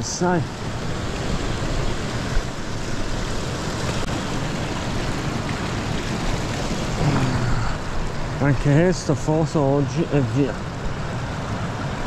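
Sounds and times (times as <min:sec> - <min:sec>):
water rushing over weir: 0:00.0 - 0:12.0.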